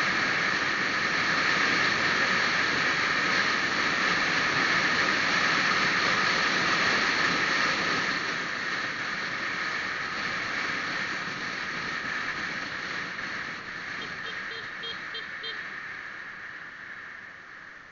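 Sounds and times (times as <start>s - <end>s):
road noise: 0.0s - 17.9s
rushing wind: 0.0s - 17.9s.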